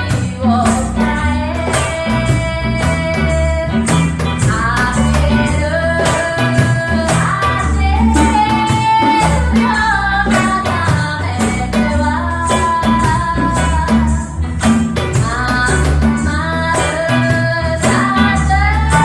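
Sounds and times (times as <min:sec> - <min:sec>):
plucked strings: 0:00.0 - 0:19.0
pulsing bass line: 0:00.0 - 0:19.0
steady percussion: 0:00.0 - 0:19.0
woman singing: 0:00.0 - 0:19.0.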